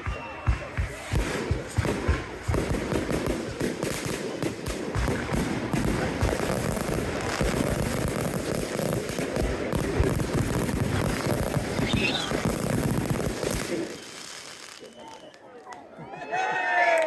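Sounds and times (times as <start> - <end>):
fireworks bangs and crackling: 0.0 - 15.7.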